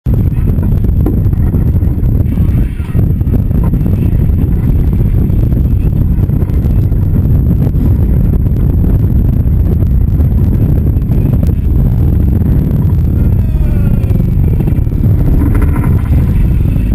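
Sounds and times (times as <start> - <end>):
boat engines rumbling: 0.0 - 16.9
wind on microphone: 0.0 - 16.9.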